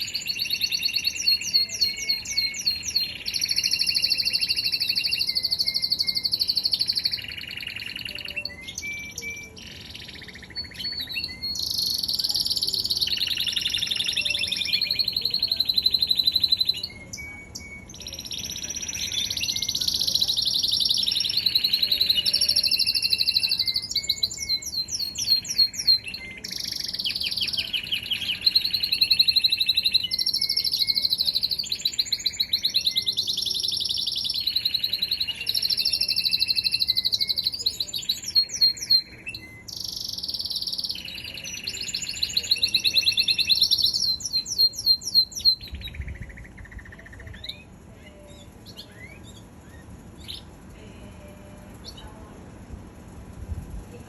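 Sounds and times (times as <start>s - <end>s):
faint bird chirps: 0.0s - 52.2s
canary singing trills: 0.0s - 52.3s.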